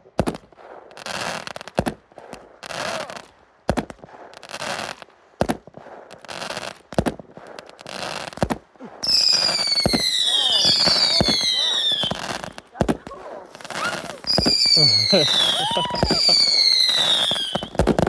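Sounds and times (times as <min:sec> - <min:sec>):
fireworks bangs: 0:00.0 - 0:18.0
fireworks crackling hiss: 0:00.2 - 0:18.0.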